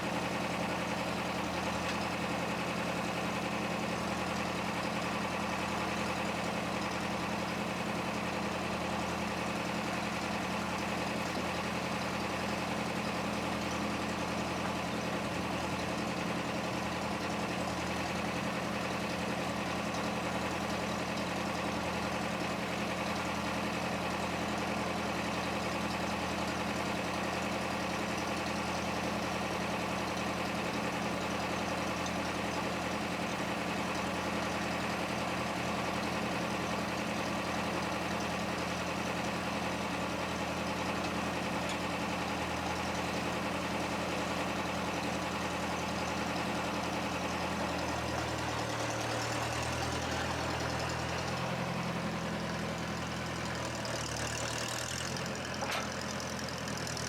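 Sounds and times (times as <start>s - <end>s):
forklift engine idling: 0.0s - 57.0s.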